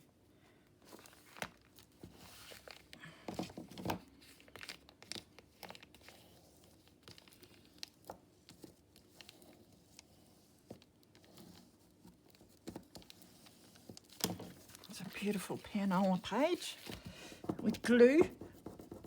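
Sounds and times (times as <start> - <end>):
paper rustling: 0.8 - 19.0.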